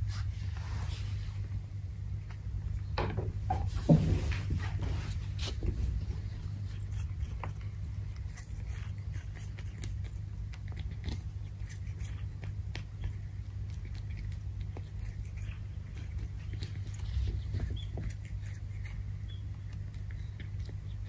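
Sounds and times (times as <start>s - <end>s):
steady low rumble: 0.0s - 21.0s
animal chewing with crunching: 2.2s - 21.0s.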